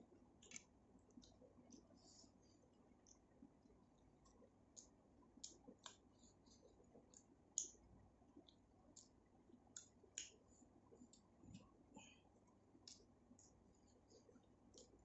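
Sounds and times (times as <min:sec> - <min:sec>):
eating sounds wet clicks: 0:00.4 - 0:02.0, 0:03.0 - 0:07.8, 0:08.4 - 0:11.8, 0:12.4 - 0:15.0.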